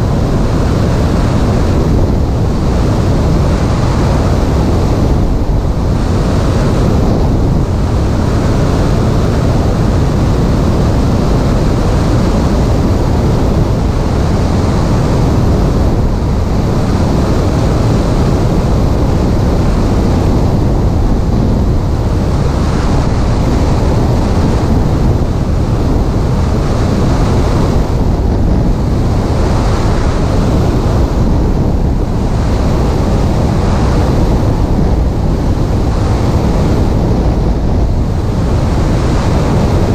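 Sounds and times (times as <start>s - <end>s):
airplane engine and propeller: 0.0s - 39.9s
wind buffeting microphone: 0.0s - 39.9s.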